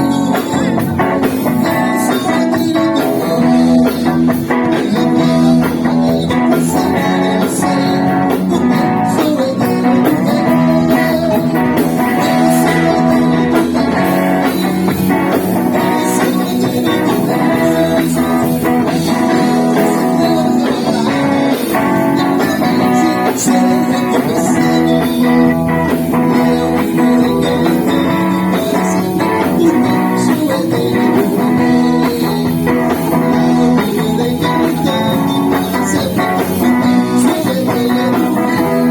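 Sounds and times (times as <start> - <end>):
gospel band music: 0.0 - 38.9
guitar: 0.0 - 38.9.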